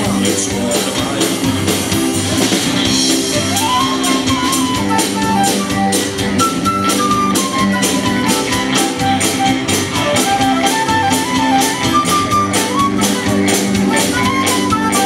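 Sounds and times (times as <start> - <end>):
bass and chords: 0.0 - 15.0
drums with cymbal strokes: 0.0 - 15.0
lead guitar held notes: 2.9 - 15.0.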